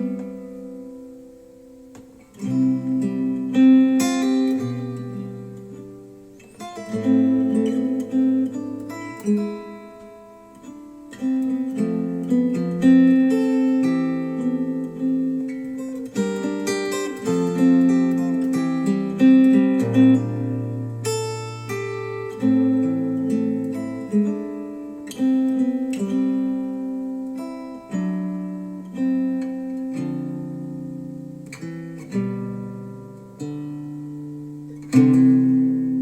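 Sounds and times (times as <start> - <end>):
acoustic guitar chords: 0.0 - 36.0.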